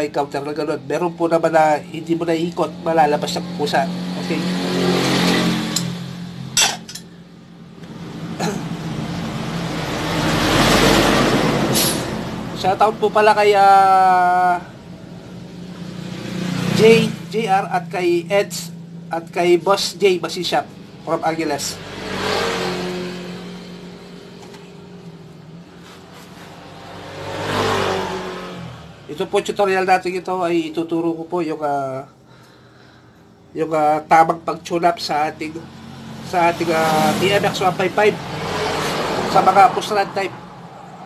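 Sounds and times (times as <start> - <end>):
road vehicle passing by: 0.0 - 30.4, 31.9 - 41.0.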